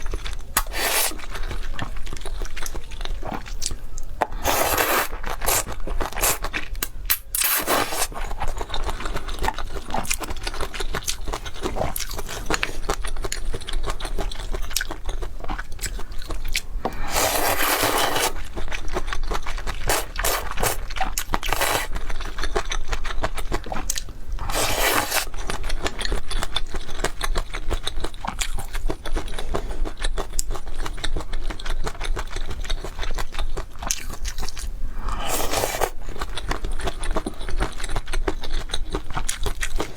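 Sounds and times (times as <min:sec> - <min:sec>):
crunching and chewing food: 0:00.0 - 0:39.9.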